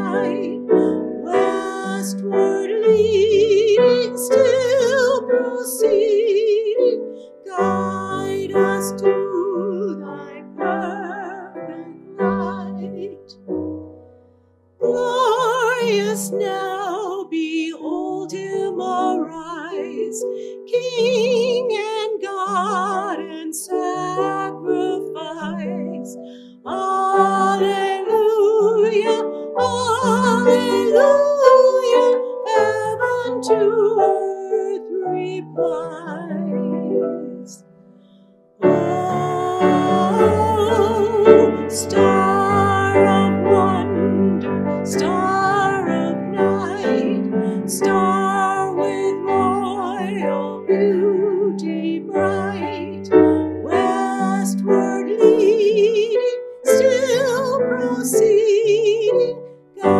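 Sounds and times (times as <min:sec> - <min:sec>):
person singing with vibrato: 0:00.0 - 0:13.5, 0:14.8 - 0:37.7, 0:38.6 - 0:59.9
piano accompaniment: 0:00.0 - 0:59.9.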